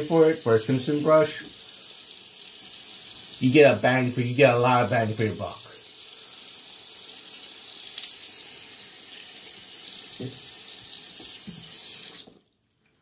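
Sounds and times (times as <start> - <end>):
faucet running into sink: 0.0 - 12.4.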